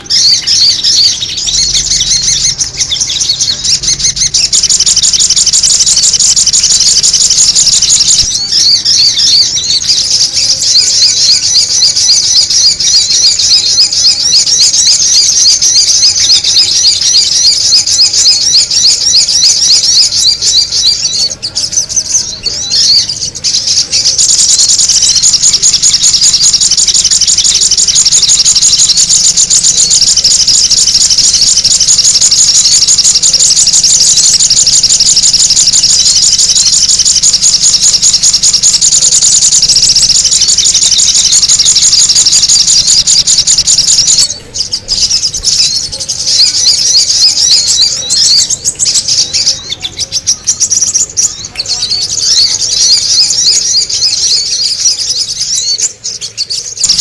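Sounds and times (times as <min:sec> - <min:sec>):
high-pitched bird chattering calls: 0:00.0 - 0:57.0.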